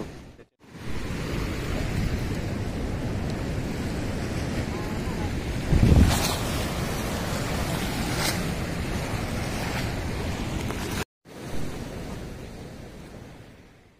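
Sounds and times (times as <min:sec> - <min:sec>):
wind buffeting microphone: 0:00.8 - 0:12.9.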